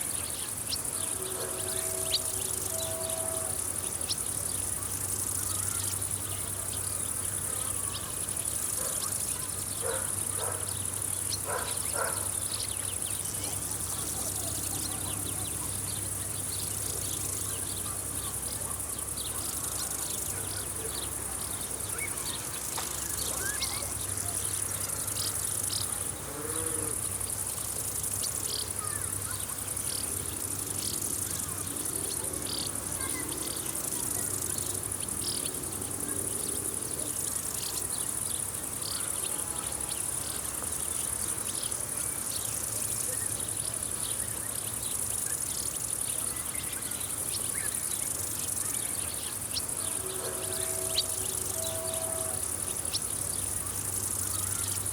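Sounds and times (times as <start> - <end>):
insects trilling: 0.0 - 54.9
short insect chirps: 0.0 - 54.9.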